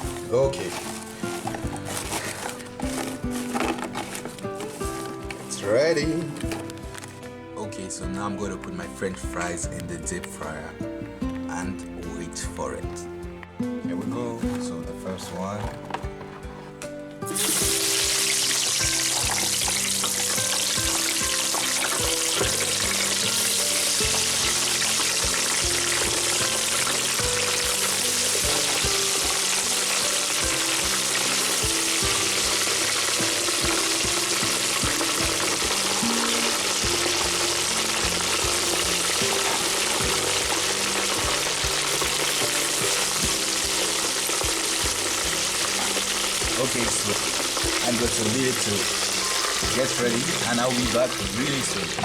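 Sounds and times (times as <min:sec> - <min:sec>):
fries sizzling in deep fryer: 0:00.0 - 0:07.0, 0:17.2 - 0:52.0.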